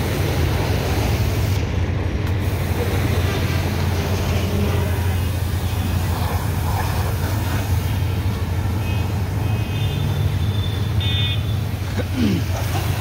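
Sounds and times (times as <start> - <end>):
pressure washer humming: 0.0 - 13.0
water jet spraying on car: 0.0 - 13.0.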